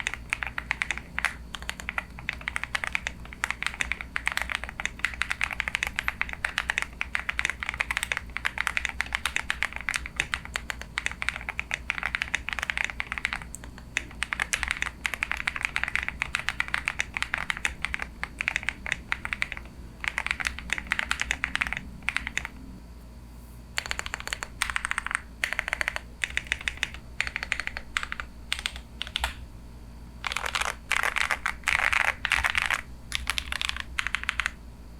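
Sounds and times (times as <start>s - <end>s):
mechanical keyboard typing: 0.0s - 22.6s, 23.8s - 29.4s, 30.2s - 34.6s.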